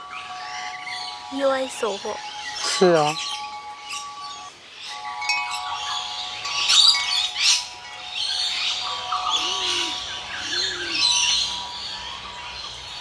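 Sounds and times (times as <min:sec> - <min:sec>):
birds chirping: 0:00.0 - 0:13.0
music with held notes: 0:00.0 - 0:13.0.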